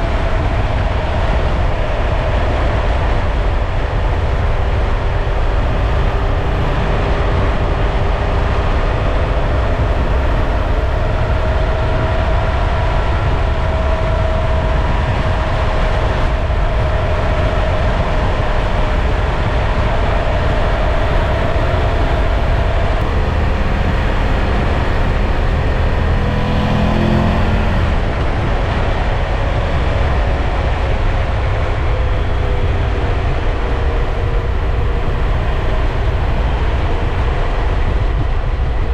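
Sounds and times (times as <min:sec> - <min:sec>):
heavy wind noise: 0:00.0 - 0:38.9
motorcycle engine running: 0:00.0 - 0:38.9
road noise: 0:00.0 - 0:38.9.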